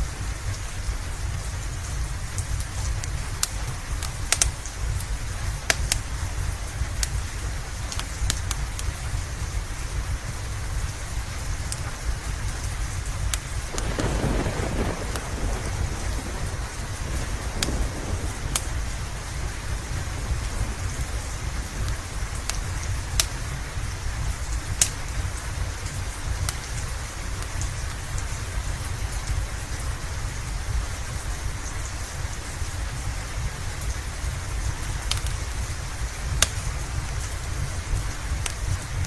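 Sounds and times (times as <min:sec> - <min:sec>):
deep low rumble: 0:00.0 - 0:38.5
steady rain: 0:00.0 - 0:39.0
wood fire popping and crackling: 0:00.2 - 0:39.0.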